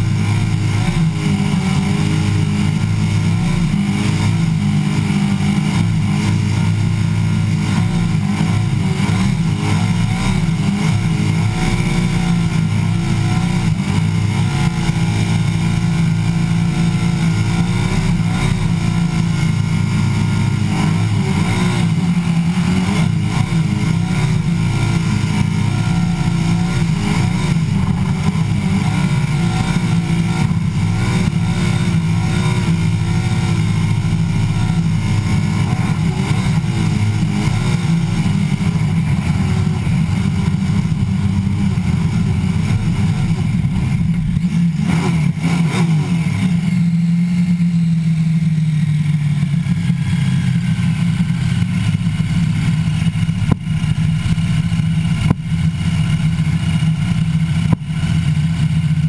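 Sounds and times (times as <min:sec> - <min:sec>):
supercharged engine revving high: 0:00.0 - 0:59.0.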